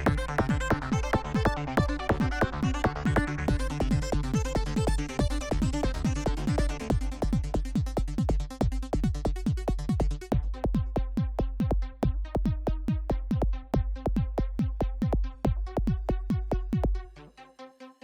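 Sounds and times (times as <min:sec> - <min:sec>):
electronic techno music: 0:00.0 - 0:17.9.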